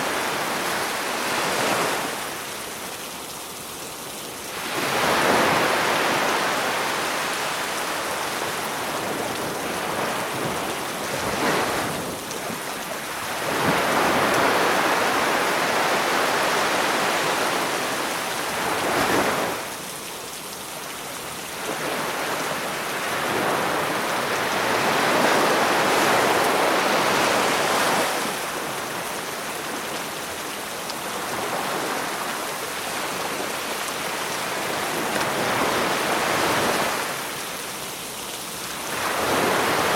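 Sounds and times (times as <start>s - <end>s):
sea waves breaking on shore: 0.0s - 3.2s, 4.3s - 20.4s, 21.2s - 39.9s.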